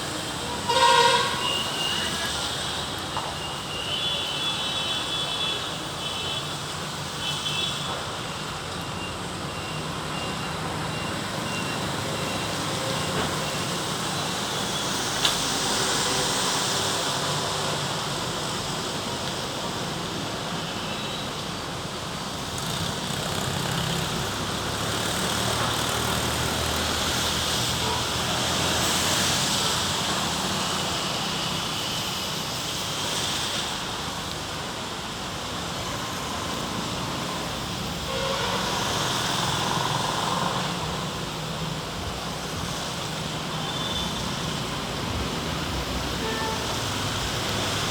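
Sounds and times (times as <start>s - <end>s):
rain: 0.0s - 47.9s
tyres hissing on wet road: 0.0s - 47.9s.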